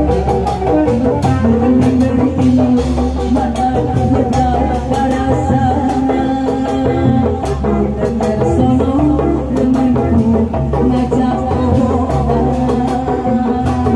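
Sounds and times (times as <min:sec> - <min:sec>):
drums and melodic instruments: 0:00.0 - 0:13.9.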